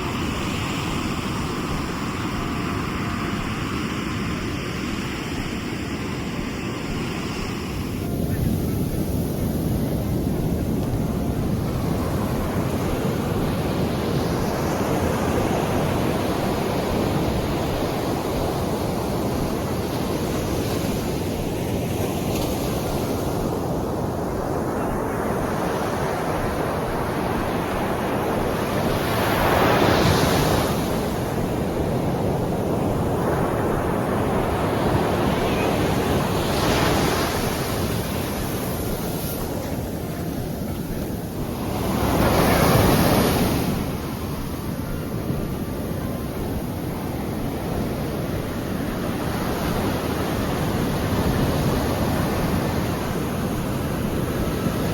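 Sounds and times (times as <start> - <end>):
waves breaking on shore: 0.0 - 54.9
wind buffeting microphone: 0.0 - 54.9.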